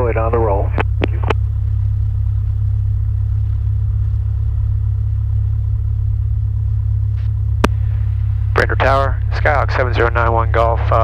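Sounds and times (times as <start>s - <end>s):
airplane piston engine drone: 0.0s - 11.0s.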